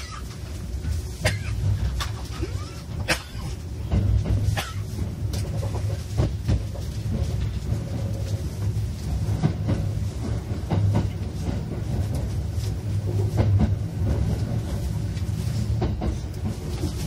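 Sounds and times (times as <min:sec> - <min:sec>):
train interior low hum: 0:00.0 - 0:17.0
wheels clacking over rail joints: 0:00.0 - 0:17.0.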